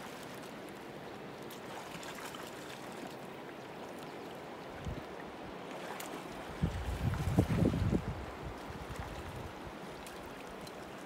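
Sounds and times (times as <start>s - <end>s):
river water flowing over rocks: 0.0s - 11.0s
small water splashes: 0.0s - 11.0s.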